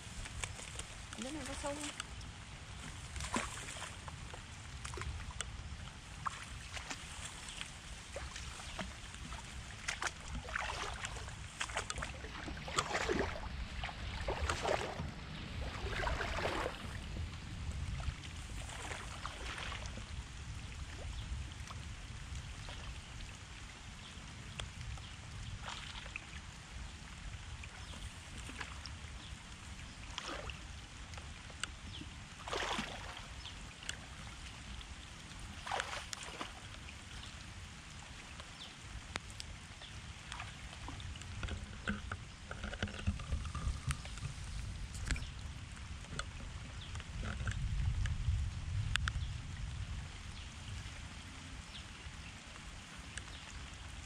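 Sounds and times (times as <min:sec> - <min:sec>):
feet wading through water: 0:00.0 - 0:23.7, 0:25.5 - 0:47.5.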